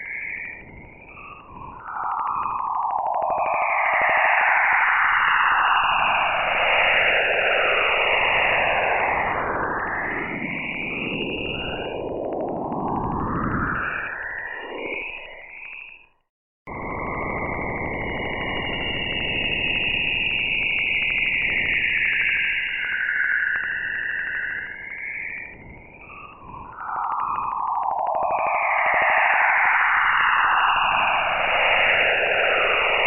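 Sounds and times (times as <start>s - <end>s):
hiss with sweeping tones: 0.0s - 16.0s, 17.8s - 33.0s.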